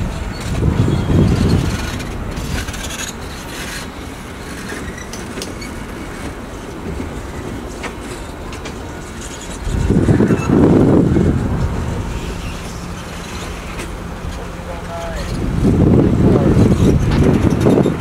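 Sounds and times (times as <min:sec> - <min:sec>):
sharp clicks of rails: 0:00.0 - 0:10.6, 0:12.5 - 0:15.4, 0:16.6 - 0:18.0
train wheels rumbling on bridge: 0:00.0 - 0:18.0.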